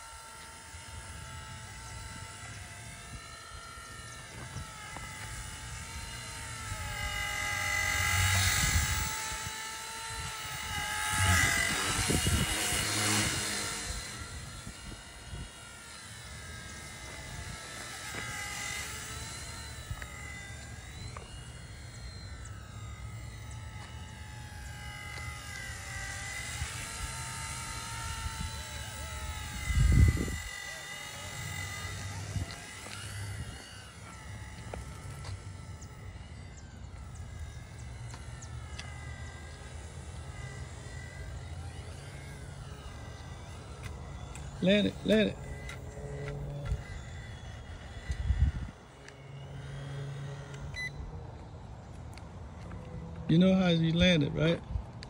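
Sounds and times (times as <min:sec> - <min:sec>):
toy helicopter motor whining: 0:00.0 - 0:55.0.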